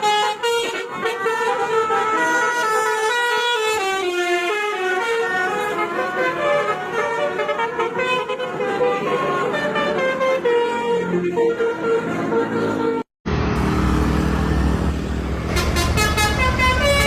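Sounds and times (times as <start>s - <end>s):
musical air horn melody: 0.0s - 13.1s, 15.5s - 17.0s.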